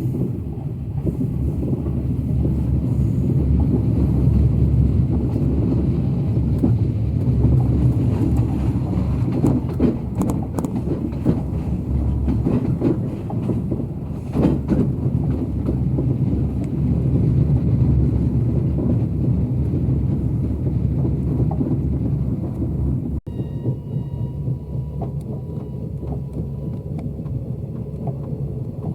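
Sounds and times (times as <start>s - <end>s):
train rumbling: 0.0s - 28.9s
wheels clacking on rails: 0.0s - 28.9s.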